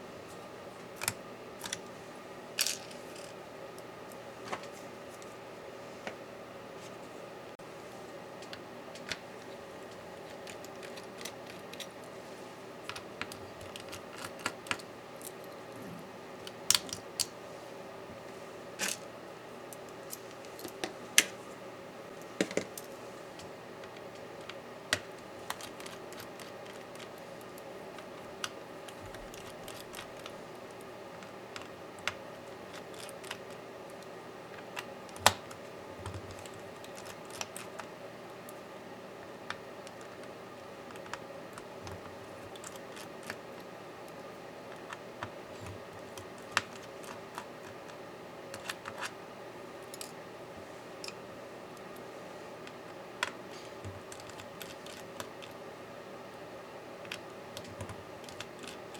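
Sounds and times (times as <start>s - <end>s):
steady faint hum: 0.0s - 58.9s.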